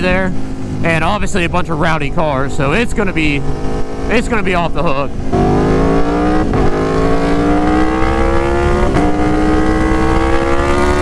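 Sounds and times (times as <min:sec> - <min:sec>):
motorcycle engine revving: 0:00.2 - 0:11.0.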